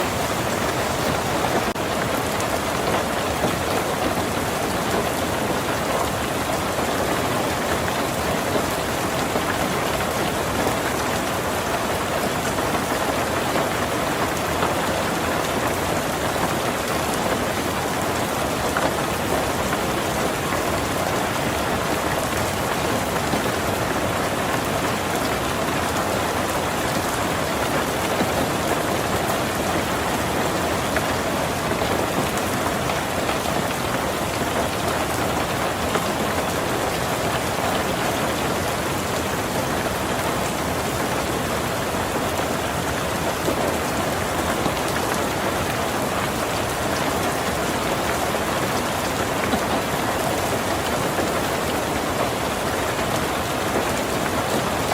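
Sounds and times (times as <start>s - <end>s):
heavy rain on a tin roof: 0.0s - 54.9s.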